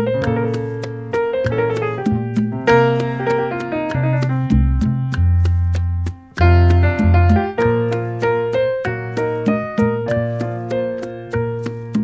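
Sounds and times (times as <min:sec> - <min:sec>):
piano-like keyboard music: 0:00.0 - 0:12.0.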